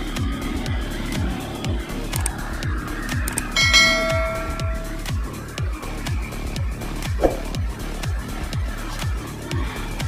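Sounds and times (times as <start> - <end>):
music with deep beat: 0.0 - 10.0.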